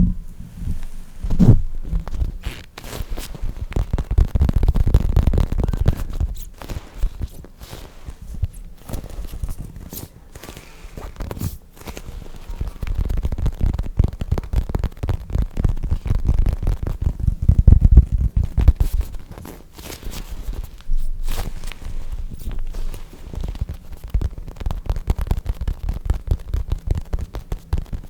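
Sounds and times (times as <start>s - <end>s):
foam toys squeezed and rubbed: 0.5s - 28.0s.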